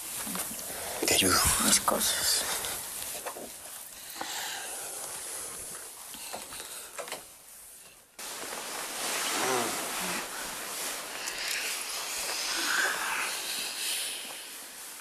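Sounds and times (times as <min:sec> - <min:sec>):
soft ticks and rustling: 0:00.0 - 0:15.0
steady hiss: 0:00.0 - 0:15.0.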